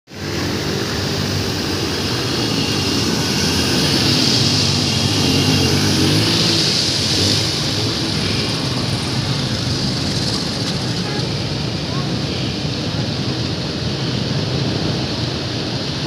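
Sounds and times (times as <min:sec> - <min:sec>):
motorcycle engines running: 0:00.1 - 0:16.0.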